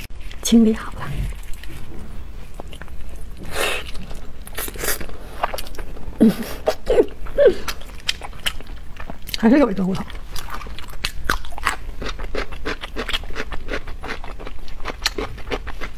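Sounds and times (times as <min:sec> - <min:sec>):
person chewing meat: 0:01.3 - 0:06.0, 0:07.1 - 0:09.4, 0:10.1 - 0:15.9.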